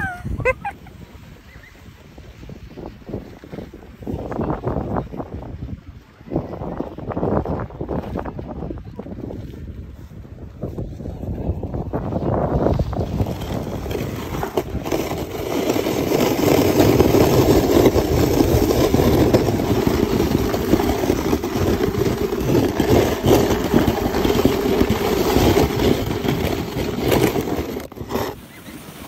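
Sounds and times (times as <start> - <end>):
sled runners scraping on snow: 0.0 - 29.0
wind on microphone: 0.0 - 29.0.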